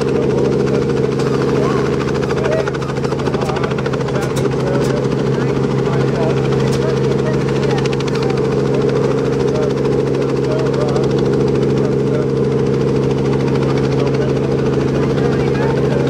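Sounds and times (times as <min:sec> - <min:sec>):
radial aircraft engine idling: 0:00.0 - 0:16.0.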